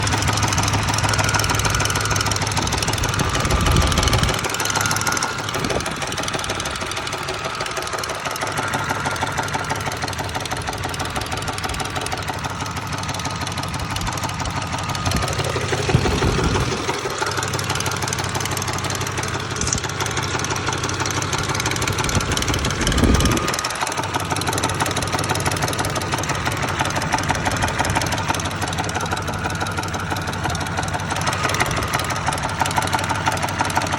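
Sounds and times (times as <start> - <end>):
engine cranking without starting: 0.0 - 33.9.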